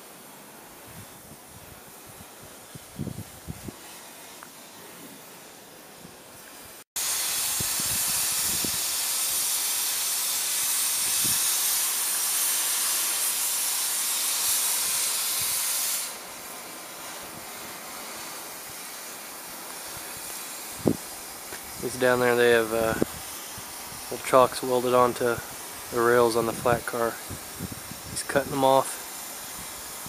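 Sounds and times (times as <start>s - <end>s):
cutting torch hissing: 0.0s - 30.0s.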